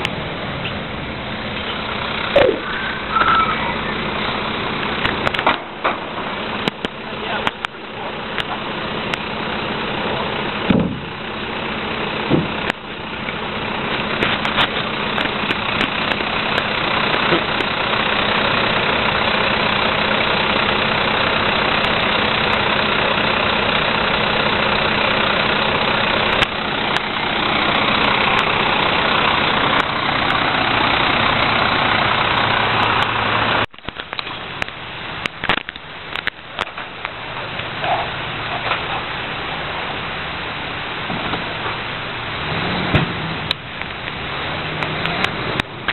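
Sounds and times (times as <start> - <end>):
garbage truck running: 0.0 - 45.9.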